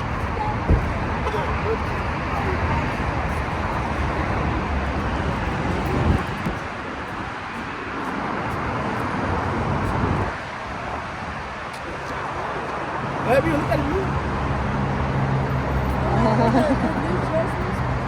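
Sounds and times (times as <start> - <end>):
car and road rumble: 0.0 - 18.0.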